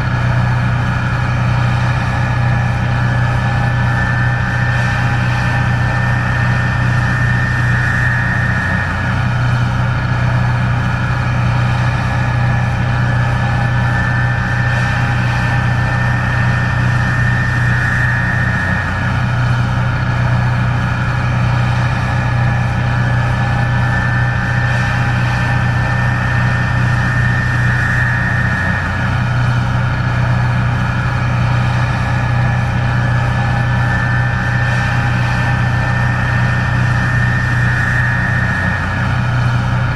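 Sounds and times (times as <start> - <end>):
combine harvester engine hum: 0.0 - 39.9
high steady whine: 0.0 - 39.9.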